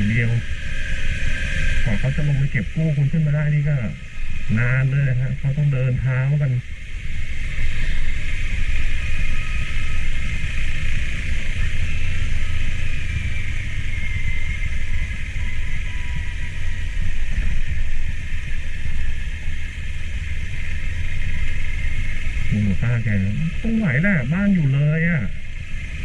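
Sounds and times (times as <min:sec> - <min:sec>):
faint whine: 0:00.0 - 0:26.0
motorcycle engine rumble: 0:00.0 - 0:26.0.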